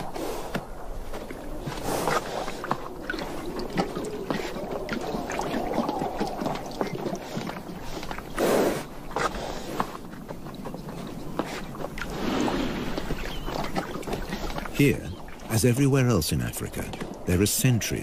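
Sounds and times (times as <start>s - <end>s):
horses drinking water splashing: 0.0s - 18.0s.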